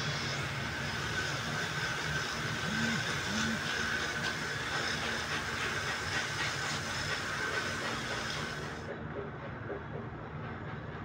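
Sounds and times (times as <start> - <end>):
workshop machinery hiss and hum: 0.0 - 8.9.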